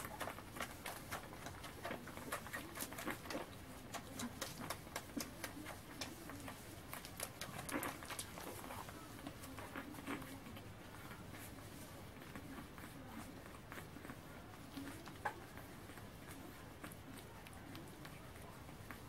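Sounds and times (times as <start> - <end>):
puppies grunting softly: 0.0 - 19.0
puppies suckling smacking: 0.0 - 19.0.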